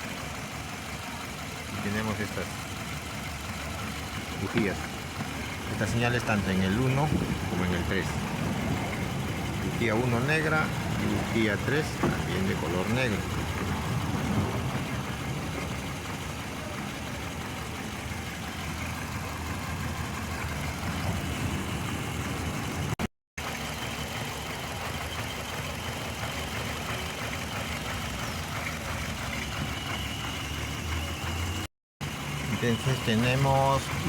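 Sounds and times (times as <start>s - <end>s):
car engine idling unevenly: 0.0s - 34.0s.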